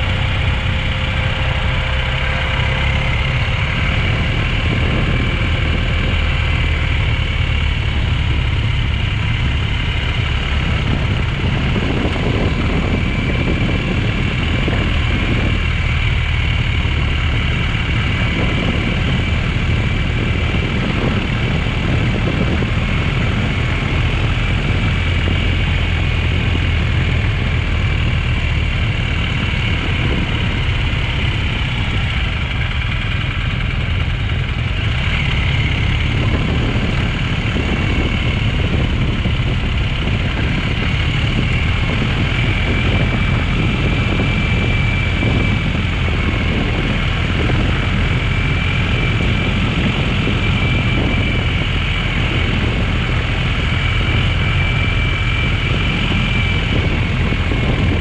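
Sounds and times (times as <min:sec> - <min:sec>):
motorcycle engine running: 0:00.0 - 0:58.0
tyre noise on dirt road: 0:00.0 - 0:58.0
wind rush: 0:00.0 - 0:58.0.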